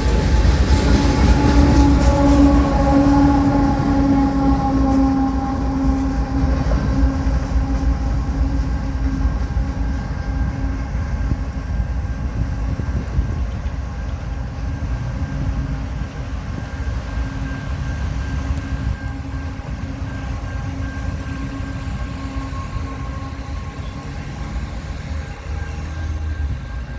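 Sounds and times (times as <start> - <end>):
freight train rumbling past: 0.0 - 26.9
sustained humming tone: 0.0 - 26.9.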